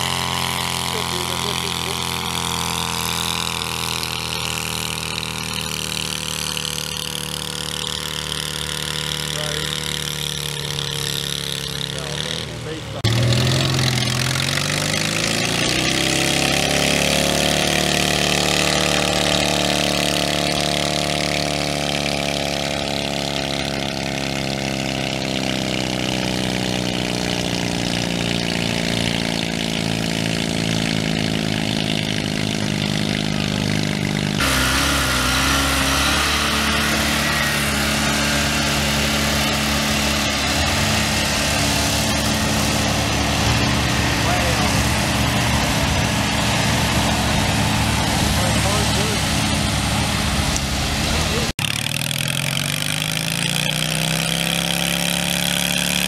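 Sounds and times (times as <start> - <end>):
garden tractor engine revving: 0.0 - 56.0
steady engine sound: 0.0 - 56.0.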